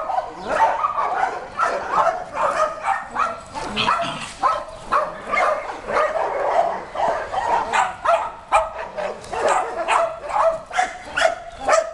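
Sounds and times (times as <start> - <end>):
dog barking: 0.0 - 11.9.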